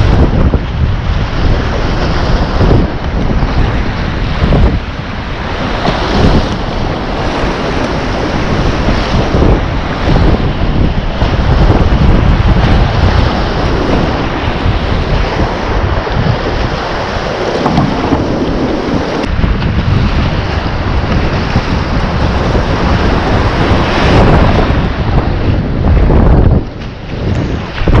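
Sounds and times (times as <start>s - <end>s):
microphone rumble: 0.0s - 28.0s
whitewater rapids rushing: 0.0s - 28.0s.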